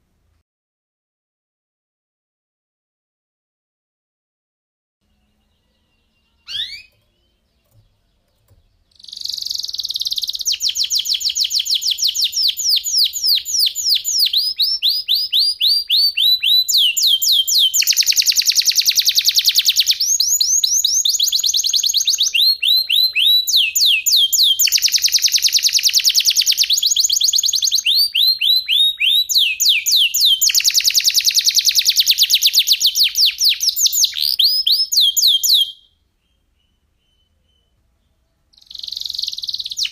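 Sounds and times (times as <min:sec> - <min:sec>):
canary singing: 0:05.0 - 0:39.9.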